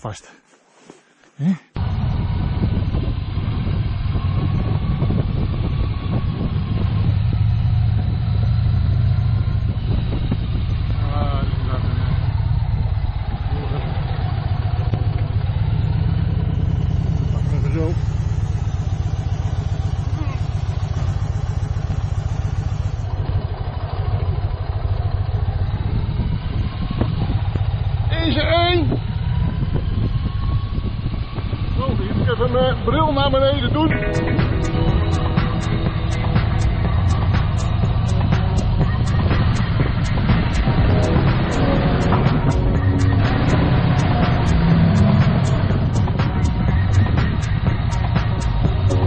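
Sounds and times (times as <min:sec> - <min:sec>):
motorcycle engine running: 0:01.8 - 0:49.0.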